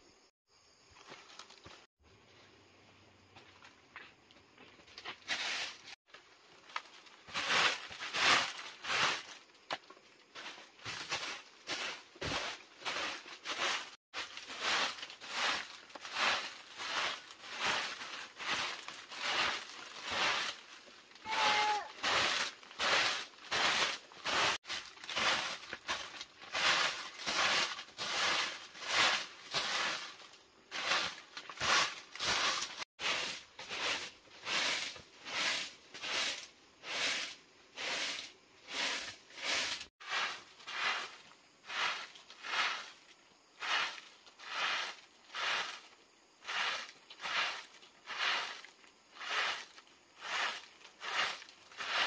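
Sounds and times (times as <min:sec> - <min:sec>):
broom sweeping dirt ground: 0:03.0 - 0:52.0.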